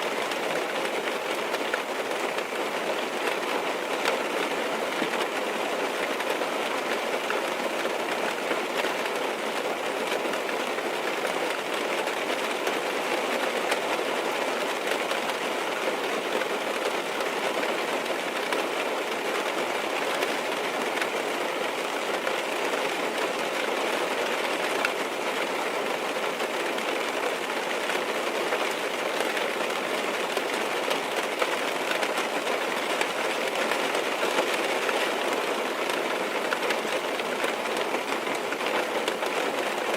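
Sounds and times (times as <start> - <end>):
rain tapping on car roof: 0.0 - 39.9.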